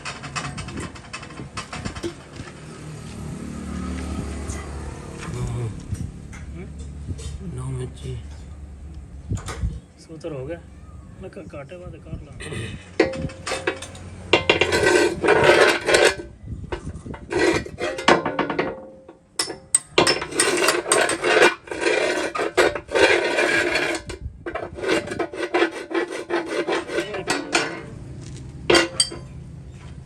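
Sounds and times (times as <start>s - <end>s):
rough scraping on metal: 0.0s - 8.6s, 12.4s - 18.8s, 19.4s - 30.0s.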